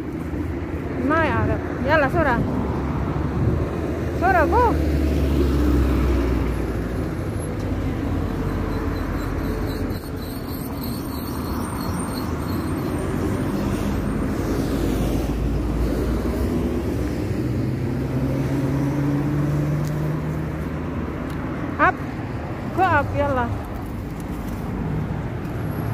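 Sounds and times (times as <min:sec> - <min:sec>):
cars passing: 0:00.0 - 0:25.9.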